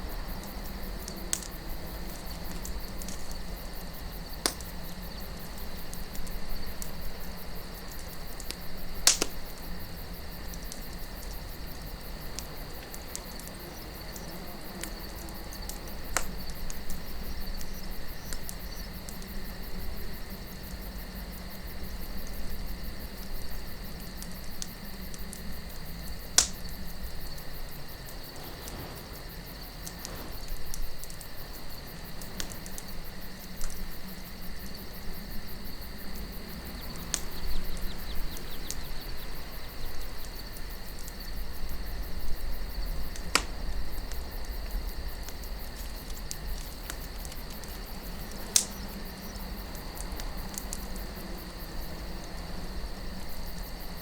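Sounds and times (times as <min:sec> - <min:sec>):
campfire crackling: 0:00.0 - 0:54.0
soft wind rumble: 0:00.0 - 0:54.0.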